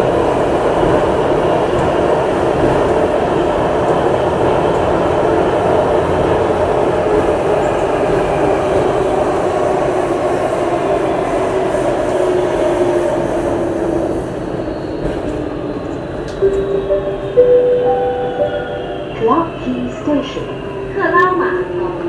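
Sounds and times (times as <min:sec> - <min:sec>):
metro train rumbling in tunnel: 0:00.0 - 0:22.0.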